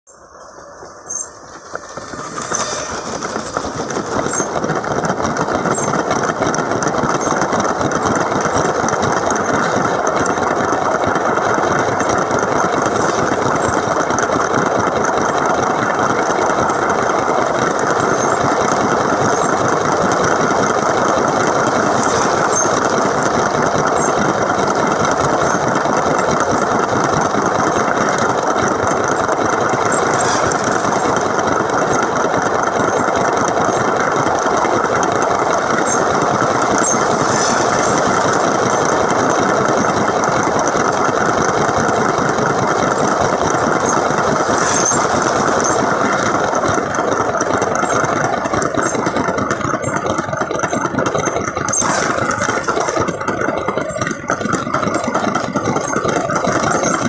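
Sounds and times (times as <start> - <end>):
toy train motor whirring: 0.1 - 10.6, 11.2 - 14.6, 15.2 - 57.0
train rolling on plastic track: 0.1 - 57.0.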